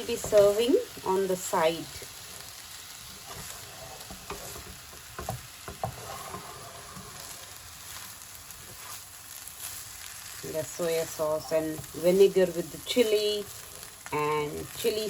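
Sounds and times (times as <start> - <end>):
fried rice sizzling in a pan: 0.0 - 15.0.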